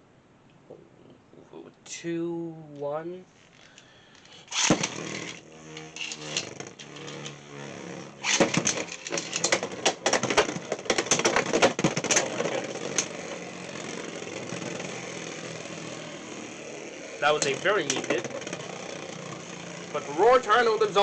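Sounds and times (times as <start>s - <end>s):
whir of spinning tops: 3.4s - 21.0s
spinning tops clashing: 4.2s - 21.0s.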